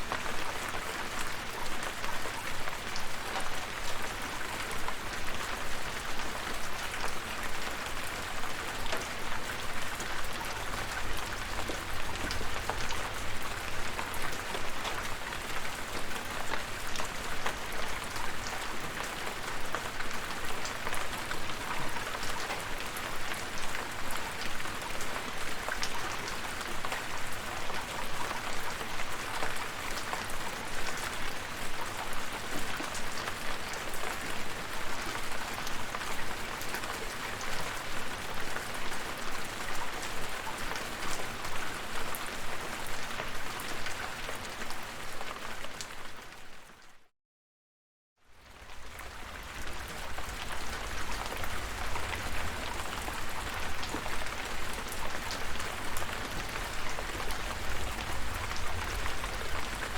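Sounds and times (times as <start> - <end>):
rain pattering on hard surface: 0.0 - 46.9, 48.4 - 59.9.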